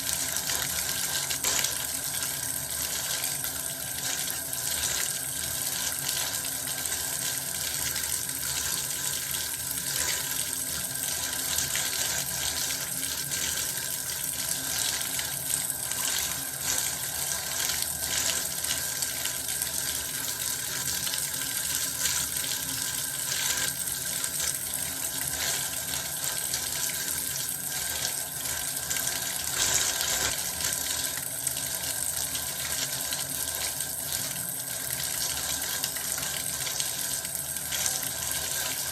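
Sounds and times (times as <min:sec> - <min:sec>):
bath water running from tap: 0:00.0 - 0:38.9.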